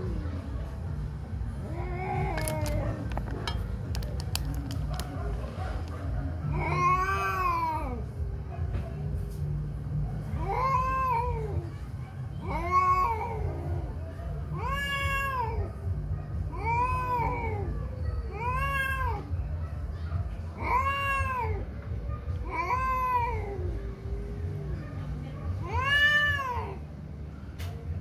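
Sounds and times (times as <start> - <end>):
cats yowling: 0.0 - 9.1, 9.9 - 27.0.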